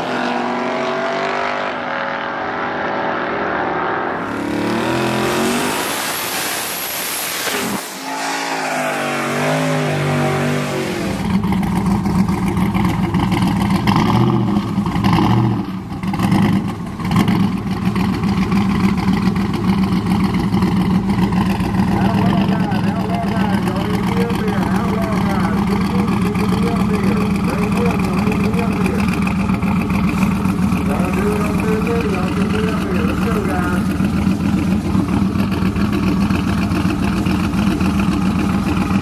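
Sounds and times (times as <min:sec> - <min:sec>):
truck engine idling and revving: 0:00.0 - 0:39.0
trucks accelerating hard: 0:00.0 - 0:39.0.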